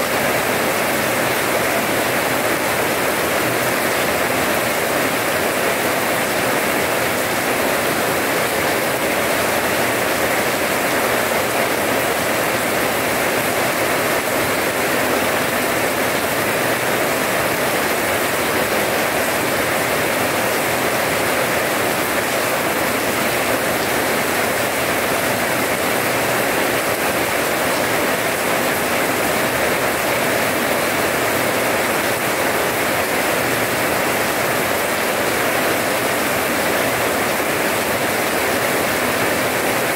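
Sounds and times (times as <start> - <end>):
rain on wet paving: 0.0 - 39.9.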